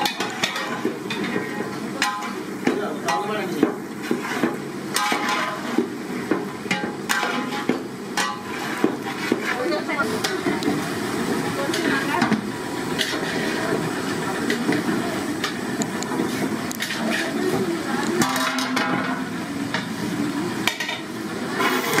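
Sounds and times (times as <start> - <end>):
metal utensils scraping in a pan: 0.0 - 19.9, 20.6 - 22.0
cooking noise: 0.0 - 22.0.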